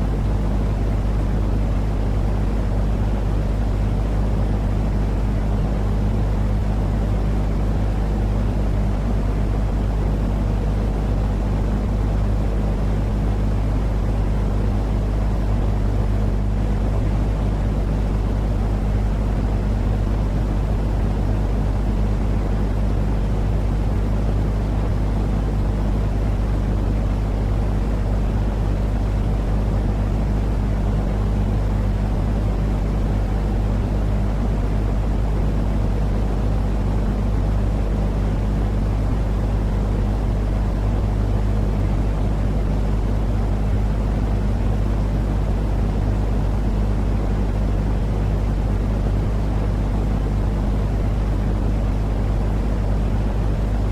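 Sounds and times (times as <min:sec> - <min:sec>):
constant low hum: 0:00.0 - 0:53.9
steady low rumbling noise: 0:00.0 - 0:53.9.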